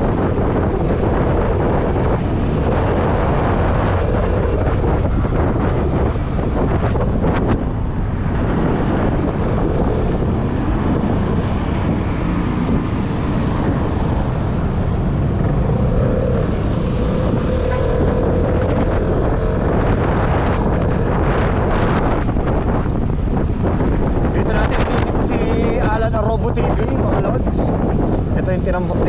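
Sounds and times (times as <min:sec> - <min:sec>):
road traffic: 0:00.0 - 0:29.0
wind rushing over microphone: 0:00.0 - 0:29.0.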